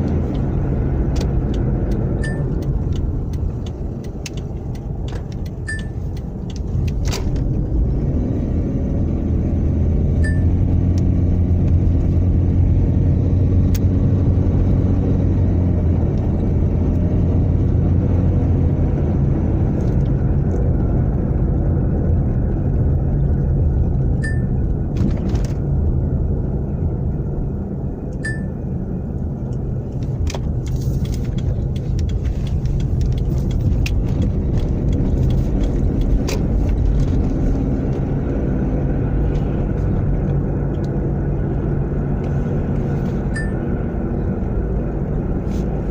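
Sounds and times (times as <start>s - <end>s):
car road and drivetrain rumble: 0.0s - 45.9s.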